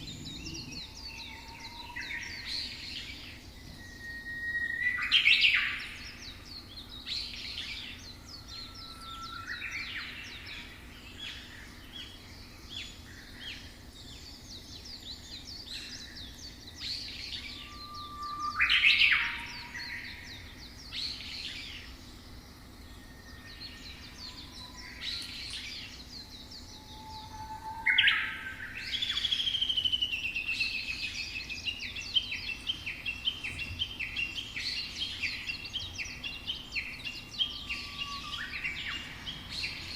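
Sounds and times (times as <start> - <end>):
loud rising whistled bird notes: 0.0 - 13.6, 14.2 - 22.2, 22.8 - 39.9
bird song with rapid trill: 0.0 - 39.9
birds chirping and singing: 0.0 - 39.9.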